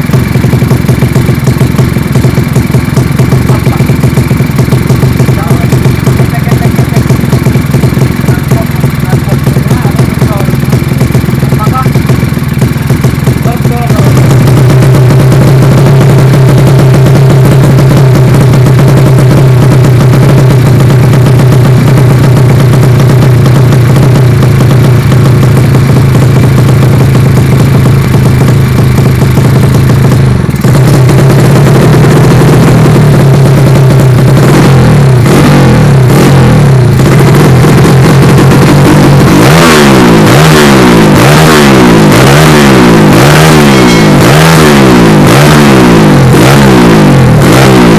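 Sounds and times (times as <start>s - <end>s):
motorcycle engine idling: 0.0s - 47.9s
motorcycle engine revving: 0.0s - 47.9s.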